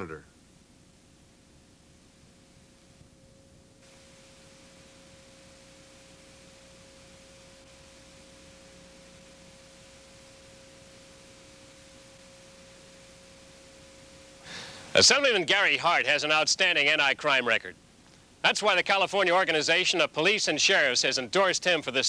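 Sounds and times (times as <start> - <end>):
faint steady tone: 0.0 - 22.0
videotape hiss: 0.0 - 22.0.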